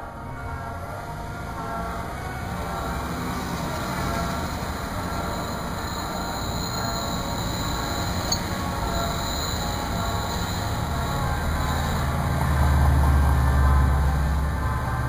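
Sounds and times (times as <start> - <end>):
high steady whine: 0.0 - 15.0
road traffic: 0.0 - 15.0
streetcar running: 0.0 - 15.0.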